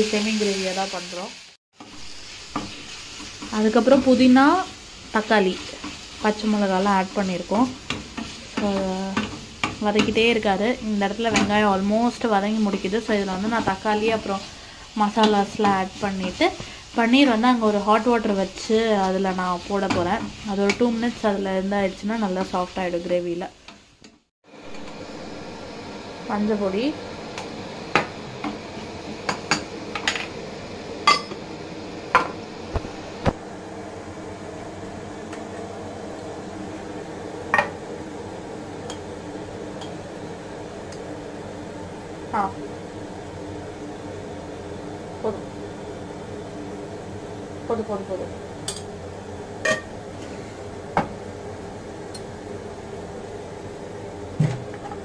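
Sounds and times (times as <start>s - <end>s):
kitchen appliance humming: 0.0s - 55.0s.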